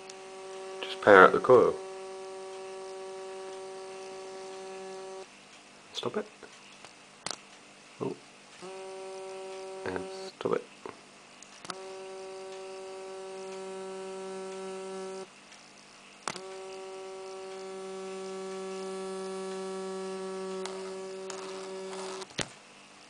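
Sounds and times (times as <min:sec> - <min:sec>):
coil electrical hum: 0:00.0 - 0:23.0.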